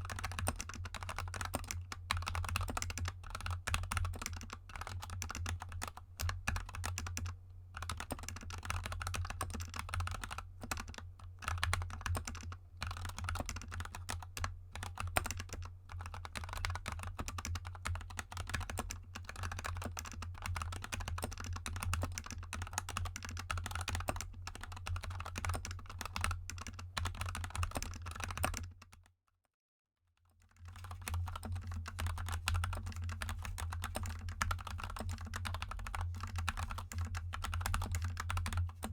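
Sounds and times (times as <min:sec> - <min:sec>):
mechanical keyboard typing: 0:00.0 - 0:29.0, 0:30.5 - 0:38.9.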